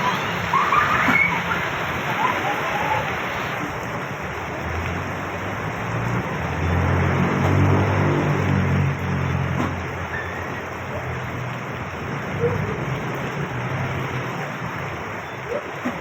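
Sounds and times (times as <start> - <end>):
vehicle engine passing: 0.0 - 15.2
heavy rain falling: 0.0 - 16.0.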